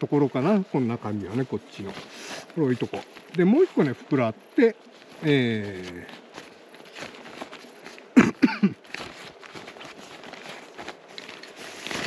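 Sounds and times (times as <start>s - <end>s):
rustling through a bag: 0.0s - 12.0s.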